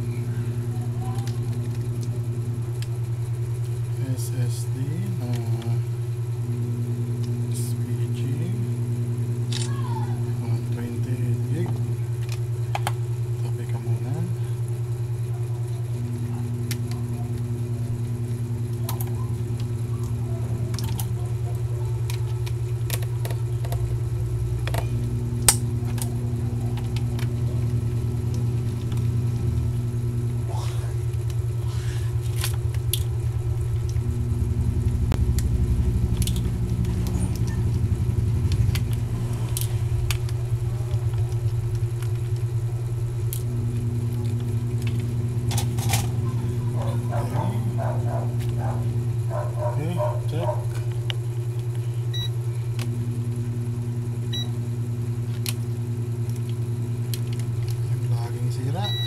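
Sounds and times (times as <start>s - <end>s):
intermittent electronic tone: 0.0s - 59.0s
low electrical hum: 0.0s - 59.0s.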